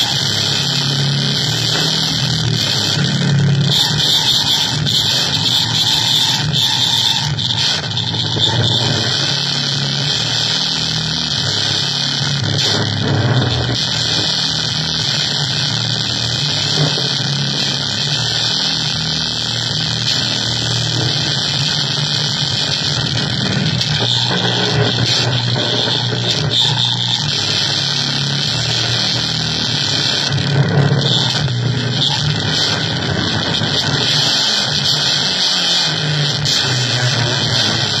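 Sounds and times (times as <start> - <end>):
harsh electronic noise music: 0.0 - 38.0.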